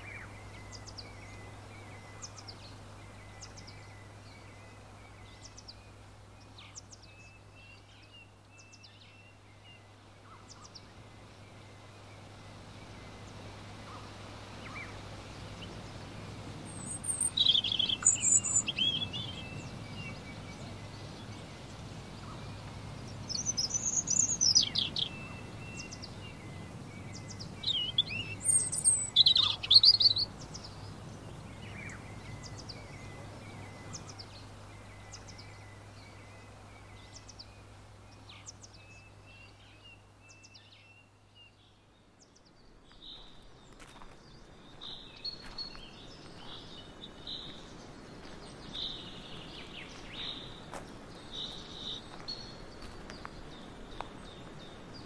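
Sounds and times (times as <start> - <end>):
birds chirping: 0.0 - 55.0
faint low hum: 0.0 - 55.0
songbirds warbling: 0.0 - 55.0.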